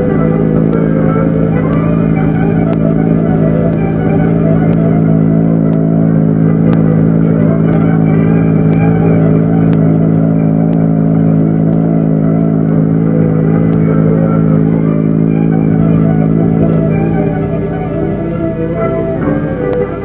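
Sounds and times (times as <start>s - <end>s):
aircraft engines droning: 0.0s - 20.0s.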